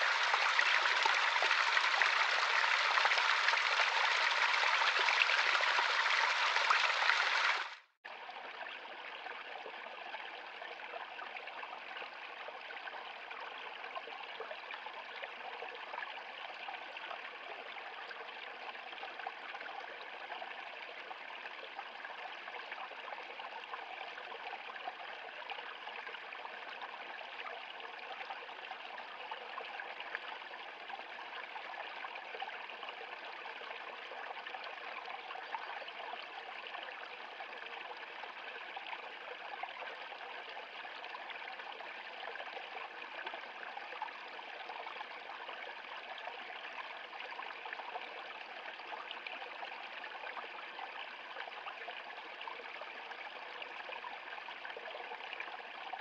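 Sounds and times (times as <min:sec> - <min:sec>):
stream trickling over rocks: 0:00.0 - 0:56.0.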